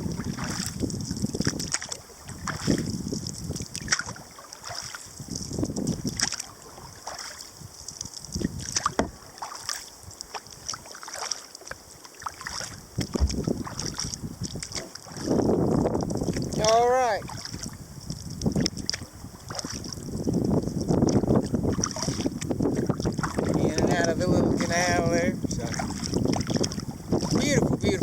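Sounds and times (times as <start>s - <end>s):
wind rumble on microphone: 0.0s - 11.0s, 11.7s - 28.0s
paddle blades dipping into water: 0.0s - 28.0s
water splashes and drips: 0.0s - 28.0s.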